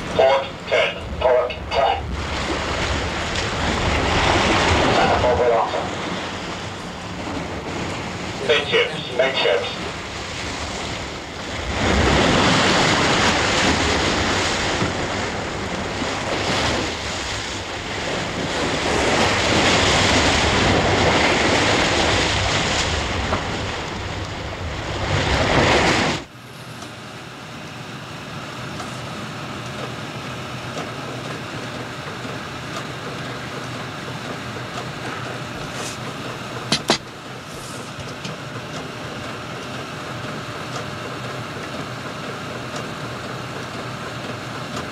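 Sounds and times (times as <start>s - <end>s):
shipboard machinery hum: 0.0s - 44.9s
wind and sea rushing: 0.0s - 44.9s.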